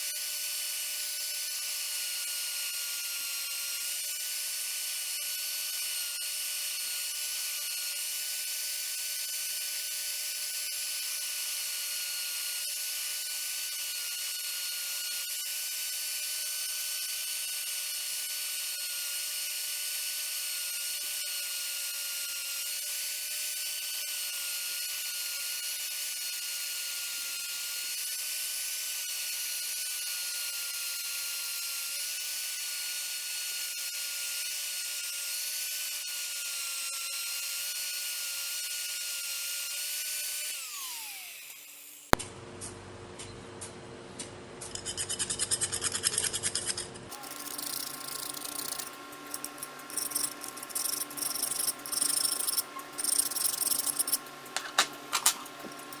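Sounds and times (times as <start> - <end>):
small power tool motor whining: 0.0 - 42.2, 47.1 - 56.0.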